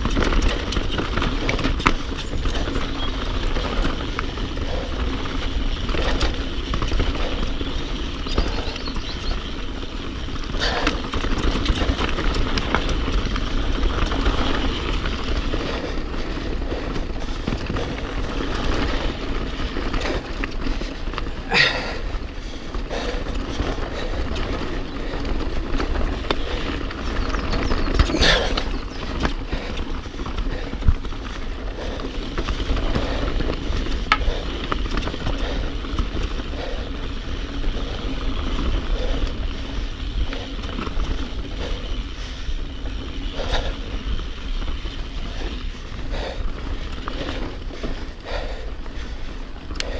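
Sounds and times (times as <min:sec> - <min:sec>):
bike rattling: 0:00.0 - 0:49.9
tyres rolling over gravel: 0:00.0 - 0:49.9.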